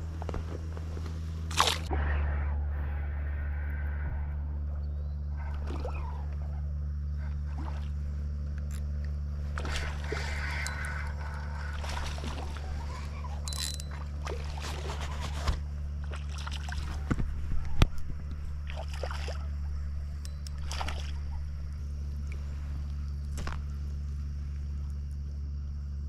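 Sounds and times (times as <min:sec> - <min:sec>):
water sloshing against boat: 0:00.0 - 0:02.0, 0:04.6 - 0:25.5
steady low hum: 0:00.0 - 0:26.0.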